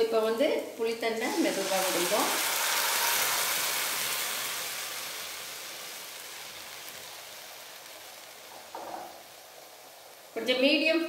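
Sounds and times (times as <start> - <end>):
liquid sizzling in a wok: 0.1 - 11.0.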